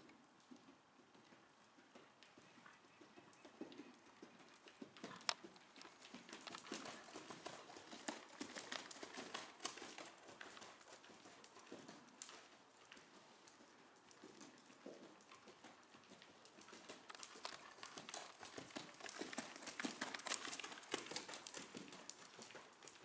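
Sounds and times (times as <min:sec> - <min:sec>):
sharp hoof clicks: 0:00.0 - 0:23.0
horse hoofbeats on sand: 0:00.5 - 0:23.0.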